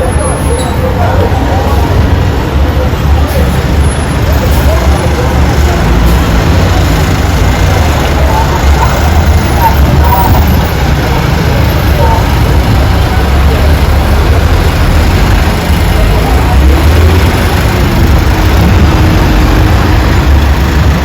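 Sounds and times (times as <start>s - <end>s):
road vehicle rumble: 0.0s - 21.0s.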